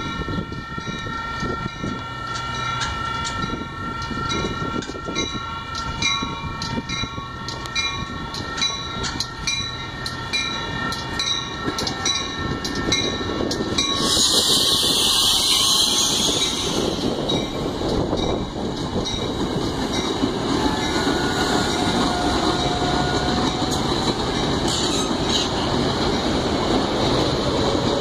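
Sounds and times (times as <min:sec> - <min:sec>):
railroad crossing bell dinging: 0:00.0 - 0:26.8
train wheels rushing past: 0:00.0 - 0:28.0.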